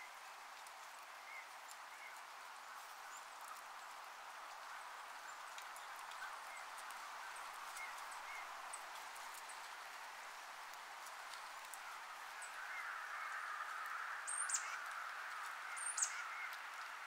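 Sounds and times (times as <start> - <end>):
soft rushing hiss: 0.0 - 17.0.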